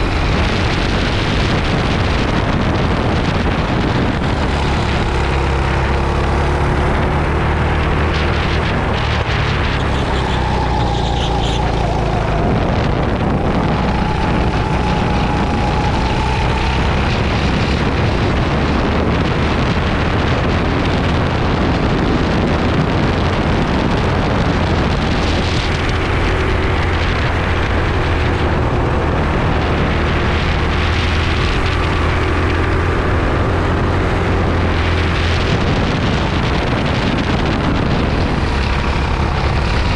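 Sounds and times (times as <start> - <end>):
racing kart engine droning: 0.0 - 39.9
wind noise on microphone: 0.0 - 39.9.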